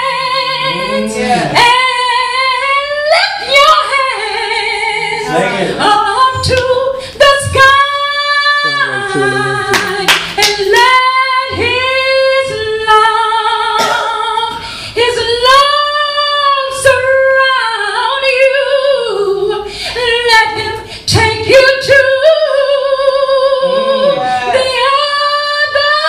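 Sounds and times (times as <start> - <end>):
woman singing gospel solo: 0.0 - 26.0.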